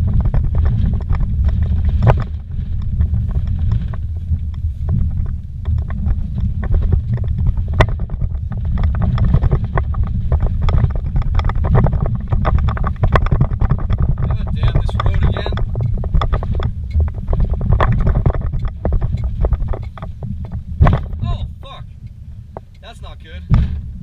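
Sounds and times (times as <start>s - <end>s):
knocks and rattles from bumps: 0.0s - 24.0s
low road rumble: 0.0s - 24.0s.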